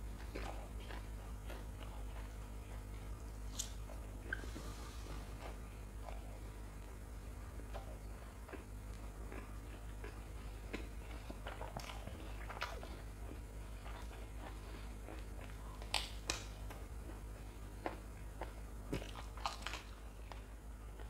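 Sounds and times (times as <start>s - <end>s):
chewing and mouth sounds: 0.0s - 21.0s
crisp chili crunching: 0.1s - 4.1s, 7.6s - 21.0s.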